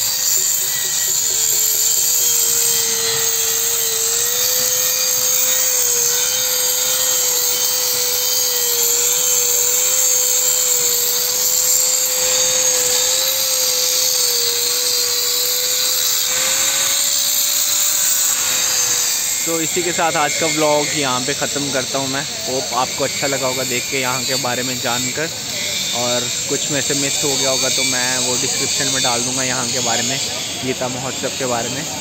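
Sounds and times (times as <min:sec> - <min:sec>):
electric grinder cutting stone: 0:00.0 - 0:32.0.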